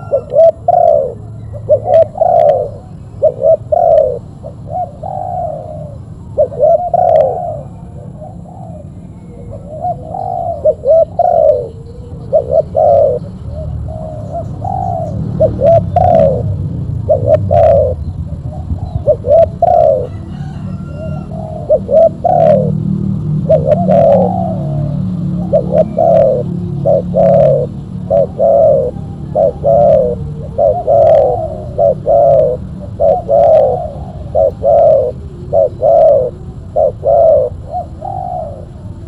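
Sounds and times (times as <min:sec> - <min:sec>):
doves cooing: 0:00.0 - 0:39.0.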